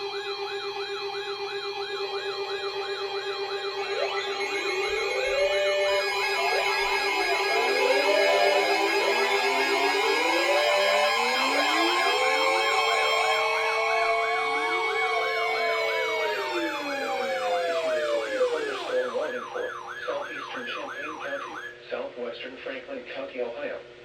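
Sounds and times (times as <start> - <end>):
electronic sirens yelping and wailing: 0.0 - 21.8.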